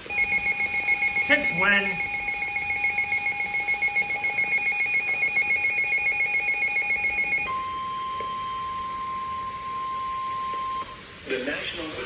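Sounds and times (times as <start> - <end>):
two-pitched alarm tone: 0.0 - 11.0
steady alert tone: 0.1 - 10.9.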